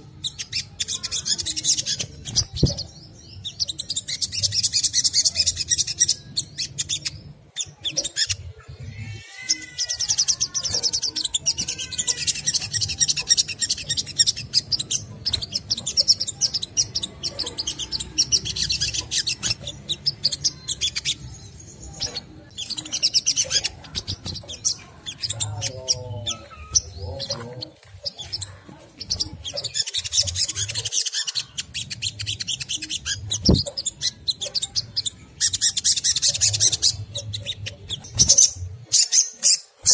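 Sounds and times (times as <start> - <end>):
sunbird high-pitched twittering: 0.0 - 39.9.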